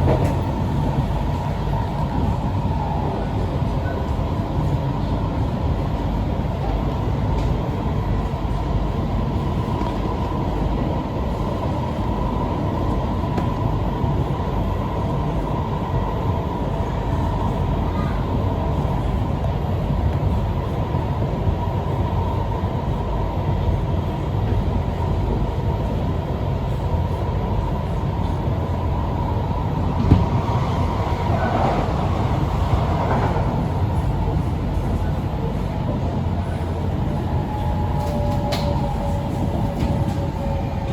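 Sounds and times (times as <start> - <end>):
metro train rumble and whine: 0.0 - 40.9.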